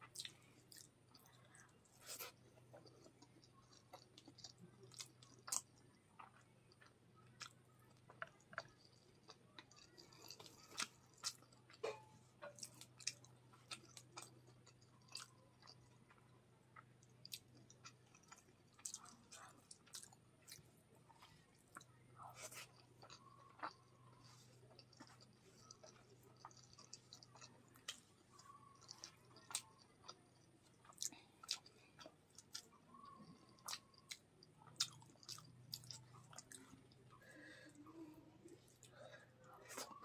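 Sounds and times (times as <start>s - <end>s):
person chewing: 0.0s - 40.0s.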